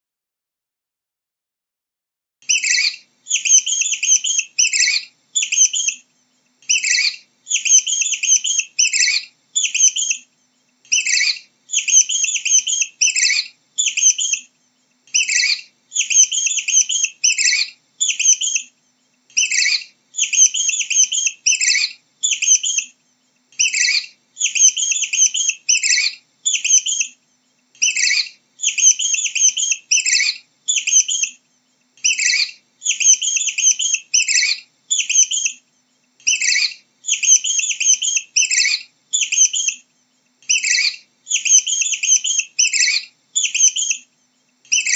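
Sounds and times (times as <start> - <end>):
mouse squeaking: 2.5 - 6.0, 6.6 - 10.3, 10.9 - 14.5, 15.1 - 18.7, 19.3 - 23.0, 23.6 - 27.2, 27.8 - 31.4, 32.0 - 35.6, 36.2 - 39.8, 40.4 - 44.1, 44.7 - 44.9.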